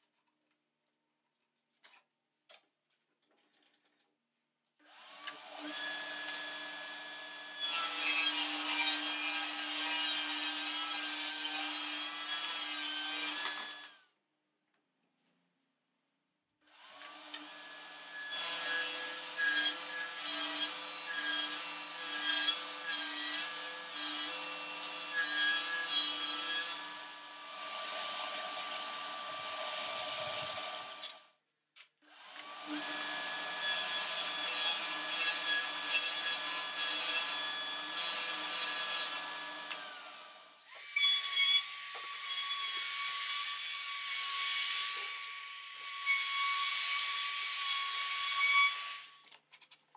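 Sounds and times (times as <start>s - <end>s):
table saw cutting wood: 4.9s - 14.0s, 16.8s - 31.2s, 32.1s - 49.2s.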